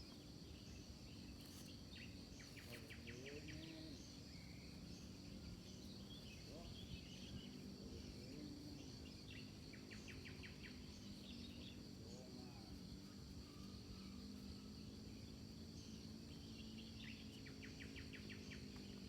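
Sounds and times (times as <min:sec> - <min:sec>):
bird-like chirps: 0:00.0 - 0:19.0
insects droning: 0:00.0 - 0:19.0.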